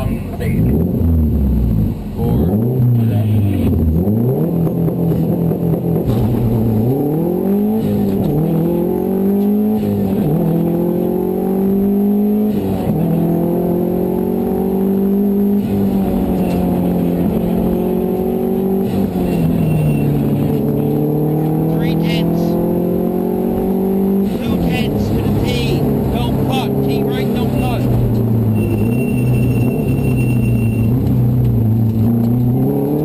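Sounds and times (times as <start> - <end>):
rally car engine accelerating: 0.0 - 33.0.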